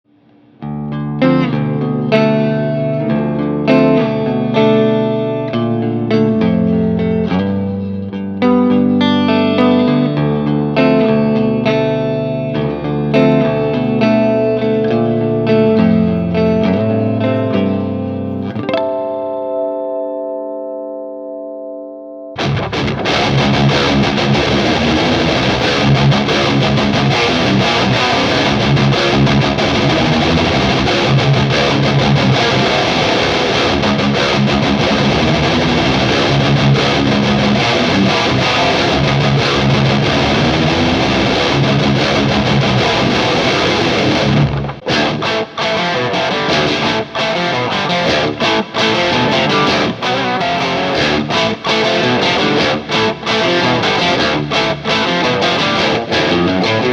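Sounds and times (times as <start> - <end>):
distorted electric guitar riffing: 0.1 - 21.4, 22.3 - 56.9.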